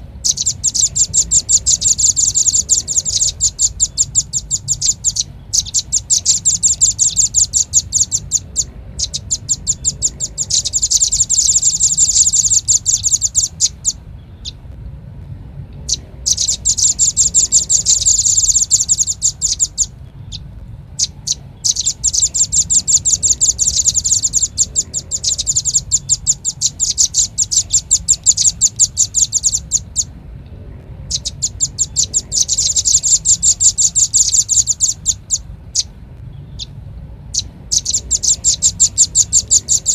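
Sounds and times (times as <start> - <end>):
faint low hum: 0.0 - 39.9
bird trilling high chips: 0.2 - 14.6, 15.8 - 30.1, 31.1 - 36.7, 37.3 - 39.9.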